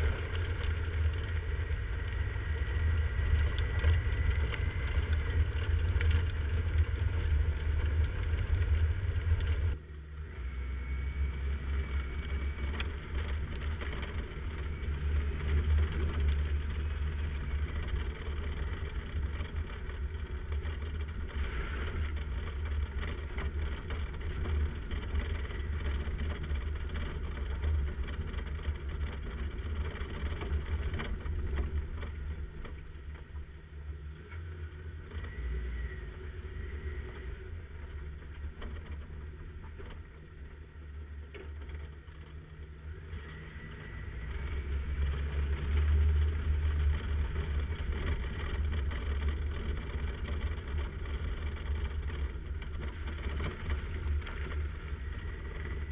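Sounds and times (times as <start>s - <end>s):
vehicle engine and road noise: 0.0s - 55.9s
wind rumble on microphone: 0.0s - 55.9s.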